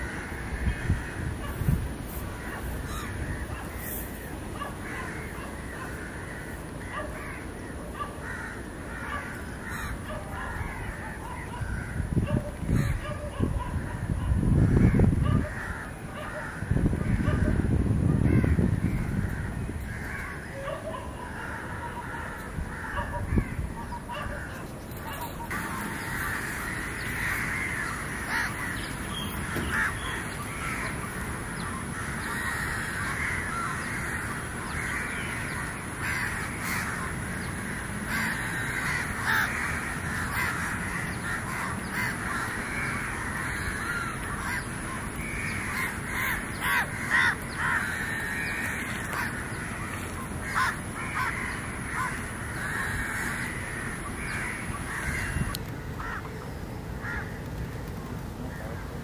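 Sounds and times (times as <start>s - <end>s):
chorus of birds calling: 0.0s - 59.0s.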